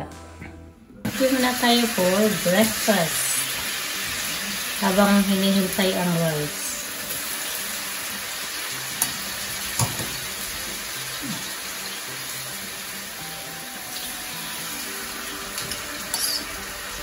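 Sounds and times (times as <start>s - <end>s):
food sizzling in hot oil: 1.0s - 17.0s.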